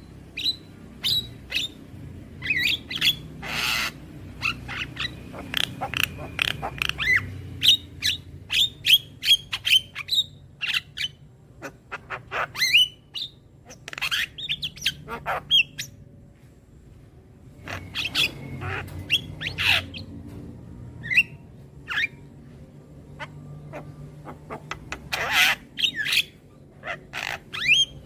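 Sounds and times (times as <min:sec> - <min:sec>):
myna bird squawking and whistling: 0:00.4 - 0:01.8, 0:02.4 - 0:16.0, 0:17.6 - 0:20.1, 0:21.0 - 0:22.3, 0:23.2 - 0:28.0.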